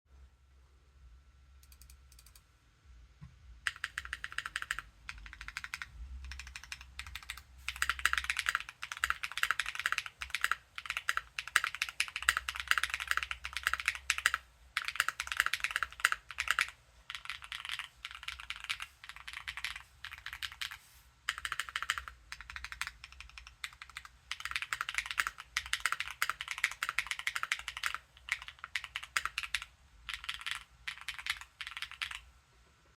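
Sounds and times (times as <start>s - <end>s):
computer keyboard typing: 1.6s - 2.4s, 3.6s - 32.3s.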